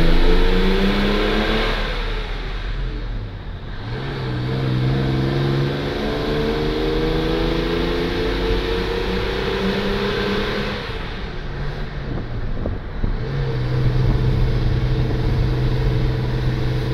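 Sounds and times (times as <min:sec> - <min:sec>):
coach diesel engine accelerating: 0:00.0 - 0:16.9.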